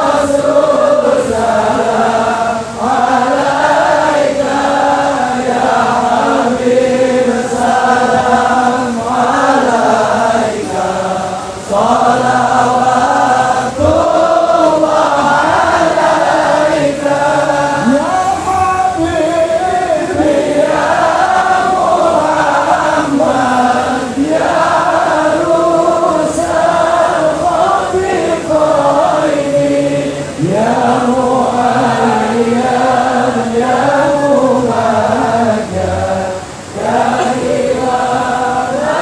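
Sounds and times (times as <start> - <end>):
crowd chanting in unison: 0.0 - 39.0.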